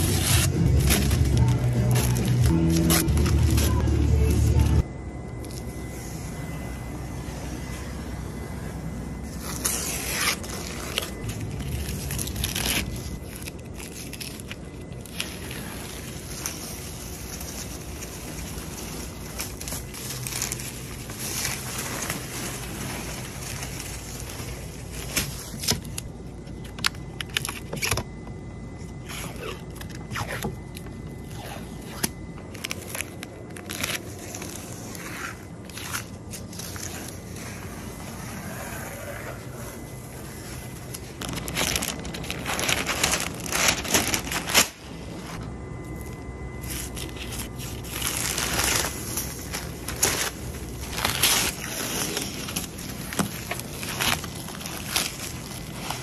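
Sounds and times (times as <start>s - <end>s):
tape and plastic film peeling: 0.0s - 4.8s, 9.3s - 28.1s, 29.0s - 56.0s.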